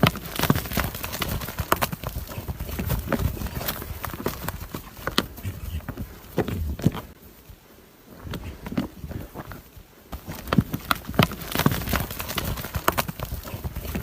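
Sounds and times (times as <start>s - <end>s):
hoofbeats: 0.0s - 7.2s, 8.2s - 14.0s.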